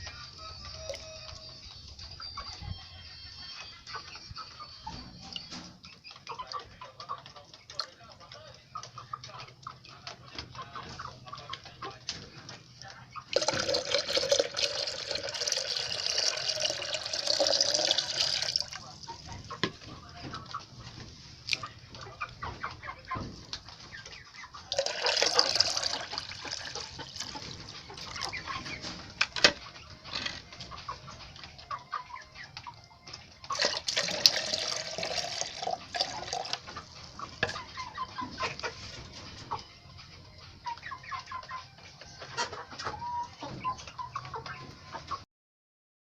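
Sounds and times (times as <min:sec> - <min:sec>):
chickens clucking: 0:00.0 - 0:45.2.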